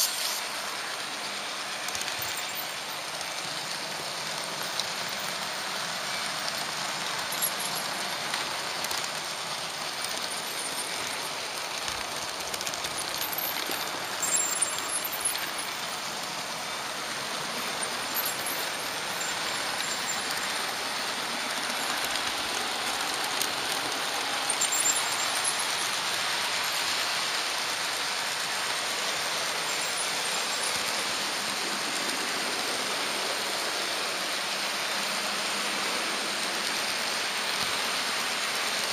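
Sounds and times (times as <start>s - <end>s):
model train running on track: 0.0s - 38.9s.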